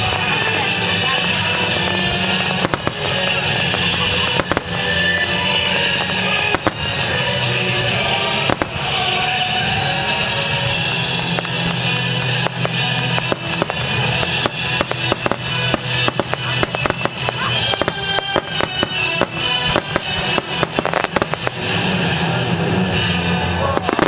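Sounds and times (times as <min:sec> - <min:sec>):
fireworks bursting: 0:00.0 - 0:24.0
music: 0:00.0 - 0:24.0.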